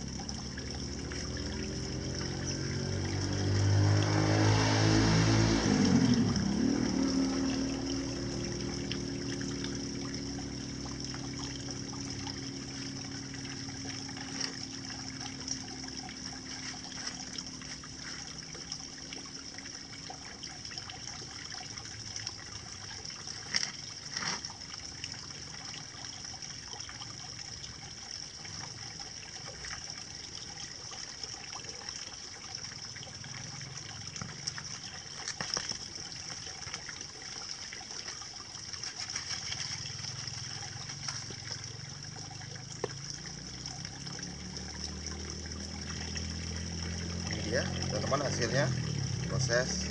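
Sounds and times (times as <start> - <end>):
low engine hum: 0.0 - 30.9, 31.6 - 49.9
water trickling over concrete: 0.0 - 49.9.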